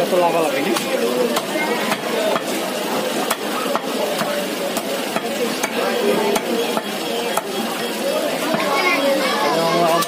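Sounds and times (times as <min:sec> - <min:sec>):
faint voices: 0:00.0 - 0:10.0
market background noise: 0:00.0 - 0:10.0.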